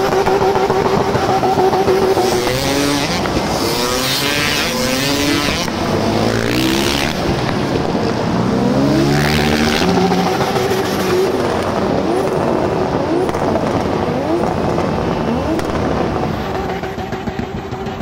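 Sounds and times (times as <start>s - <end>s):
car engine revving hard: 0.0s - 18.0s
steady noisy haze: 0.0s - 18.0s.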